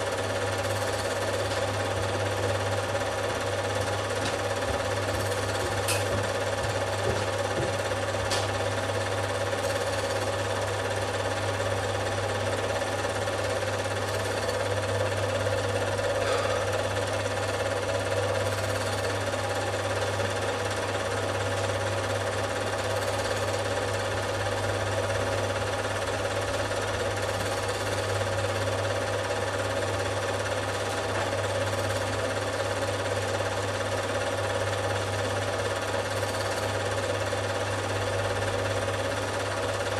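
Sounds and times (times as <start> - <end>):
film projector clattering: 0.0 - 39.9.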